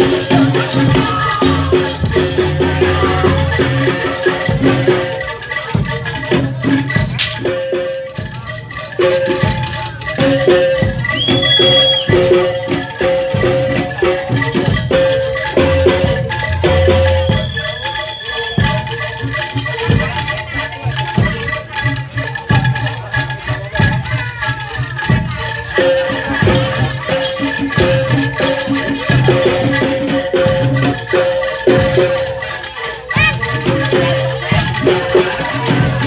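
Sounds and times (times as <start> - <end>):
drum strokes: 0.0 - 36.0
rattling percussion: 0.0 - 36.0.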